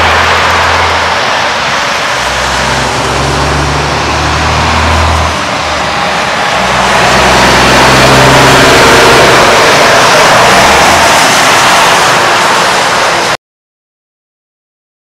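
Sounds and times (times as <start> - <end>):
diesel truck engine running: 0.0 - 13.4.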